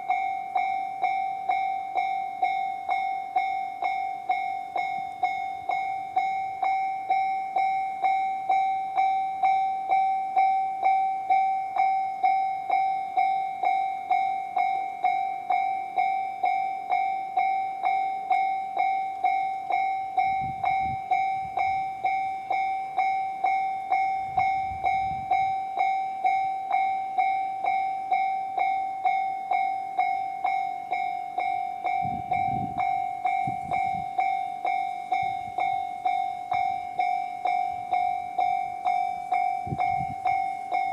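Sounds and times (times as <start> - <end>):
level-crossing alarm dinging: 0.0 - 40.9.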